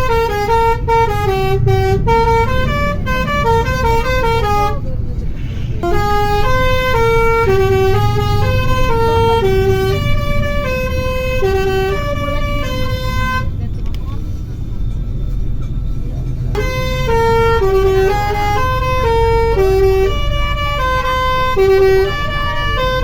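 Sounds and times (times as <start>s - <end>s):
musical air horns playing melody: 0.0s - 13.5s, 16.6s - 23.0s
low vehicle rumble: 0.0s - 23.0s.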